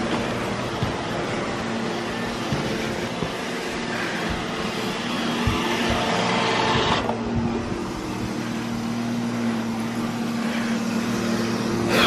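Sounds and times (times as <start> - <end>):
robot vacuum humming: 0.0 - 12.0.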